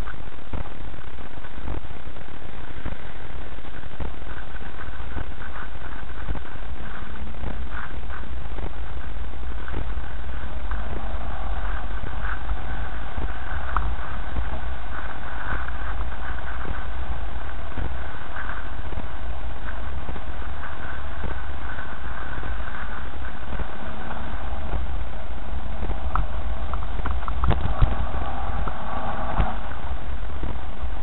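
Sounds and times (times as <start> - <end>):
car driving on dirt track: 0.0 - 31.0.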